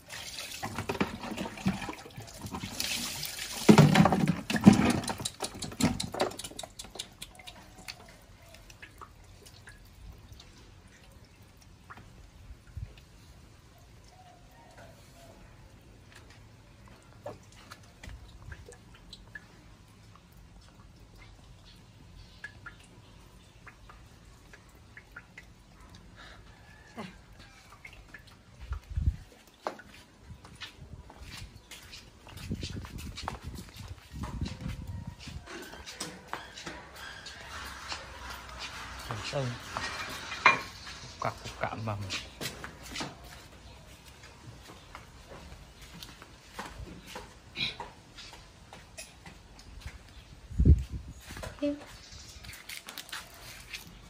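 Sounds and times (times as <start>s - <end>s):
water poured and splashing: 0.0s - 15.1s, 15.9s - 44.9s, 49.0s - 54.0s.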